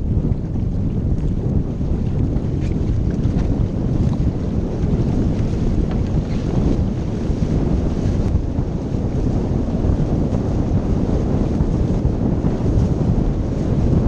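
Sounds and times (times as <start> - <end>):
rushing water: 0.0 - 14.0
wind buffeting microphone: 0.0 - 14.0.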